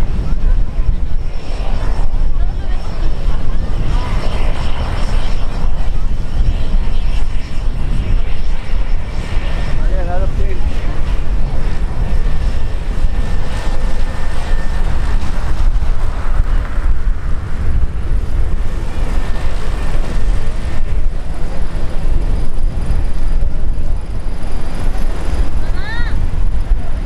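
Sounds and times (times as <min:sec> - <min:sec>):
aircraft engine rumble: 0:00.0 - 0:27.0.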